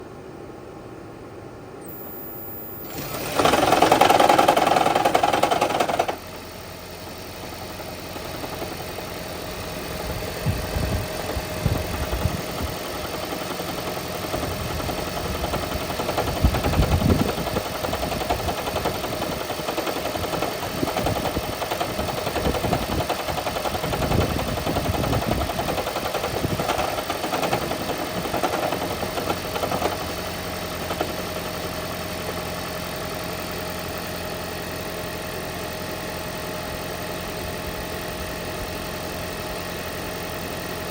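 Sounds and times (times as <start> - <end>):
car engine starting with rattle: 2.8 - 40.9.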